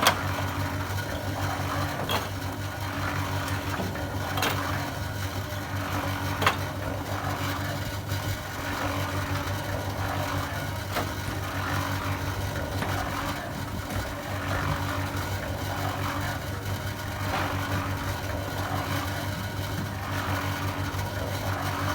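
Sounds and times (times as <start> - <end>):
concrete mixer running: 0.0 - 21.9.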